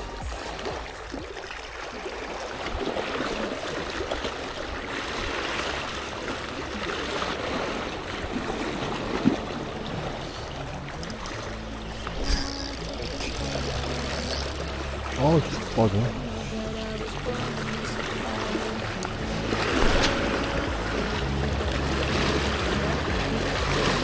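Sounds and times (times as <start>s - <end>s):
seawater sloshing: 0.0s - 24.0s.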